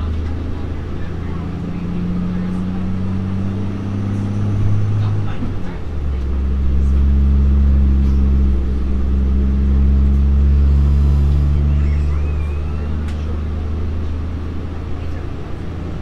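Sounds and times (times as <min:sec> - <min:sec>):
train diesel engine drone: 0:00.0 - 0:16.0.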